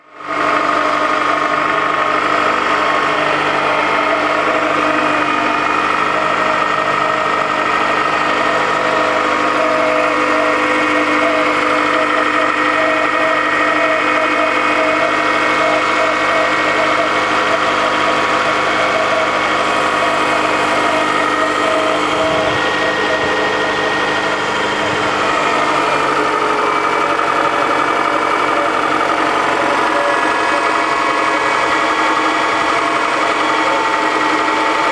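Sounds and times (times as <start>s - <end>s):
car engine idling: 0.0s - 34.9s
fast rhythmic engine clatter: 0.0s - 34.9s.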